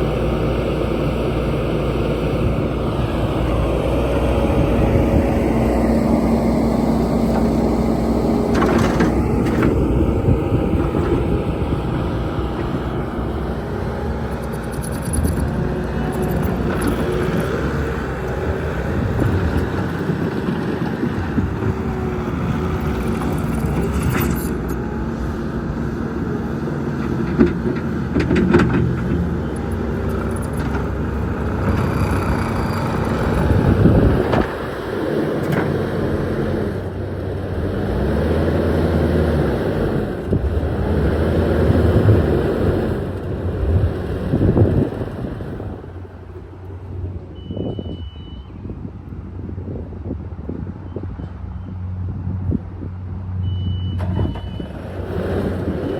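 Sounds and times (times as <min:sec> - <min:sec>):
skid steer diesel engine revving: 0:00.0 - 0:48.4, 0:51.4 - 0:55.9.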